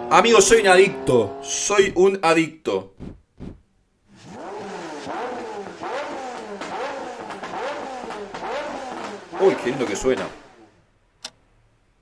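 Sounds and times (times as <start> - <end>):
car engine accelerating hard: 0.0 - 2.0, 3.0 - 10.8.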